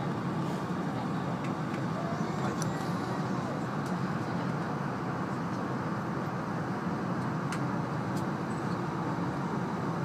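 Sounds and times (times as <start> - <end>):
train running noise in cabin: 0.0 - 10.0.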